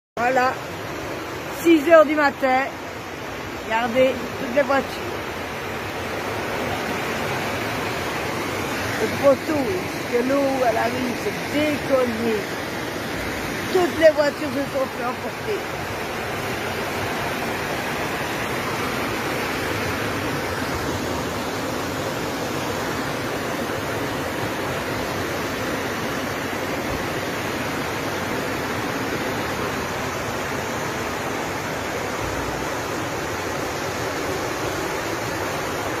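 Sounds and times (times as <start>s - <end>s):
floodwater rushing: 0.2s - 36.0s.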